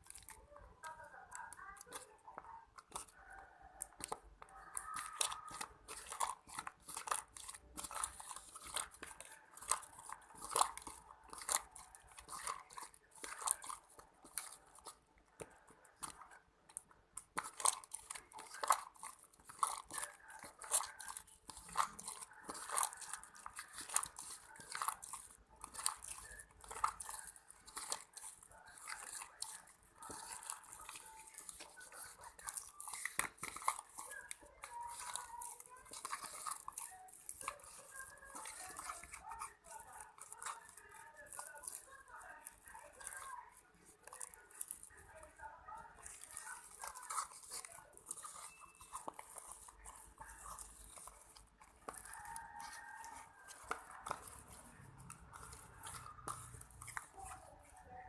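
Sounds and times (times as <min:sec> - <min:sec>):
slime squished by hand: 0:00.0 - 0:58.0.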